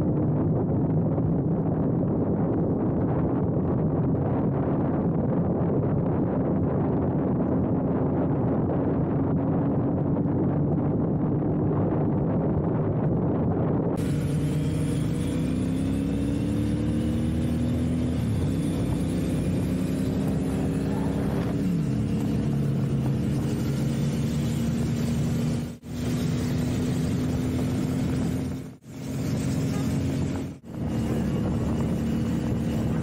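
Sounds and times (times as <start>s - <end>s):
wind and road noise: 0.0s - 33.0s
motorcycle engine cruising: 6.1s - 33.0s.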